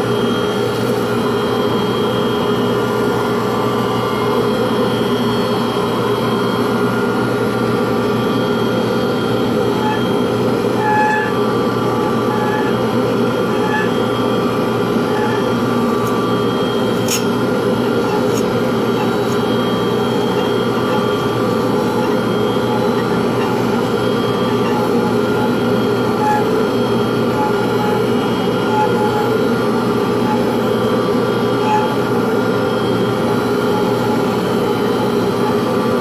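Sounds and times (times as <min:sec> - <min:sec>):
power tool motor whirring: 0:00.4 - 0:36.0.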